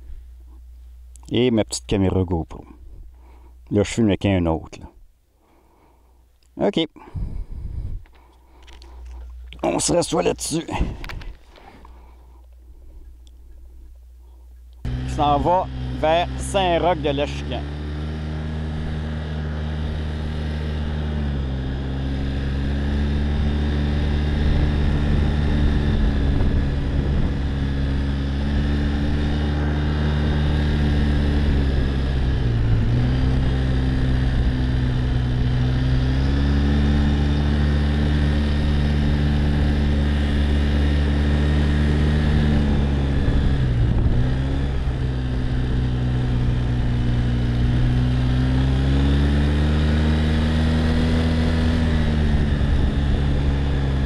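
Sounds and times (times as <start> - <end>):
quad bike engine running: 7.2 - 54.0.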